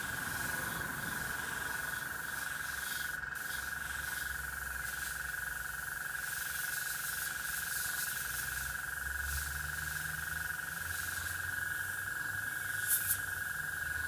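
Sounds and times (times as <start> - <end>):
airbrush air hiss: 0.0 - 14.0.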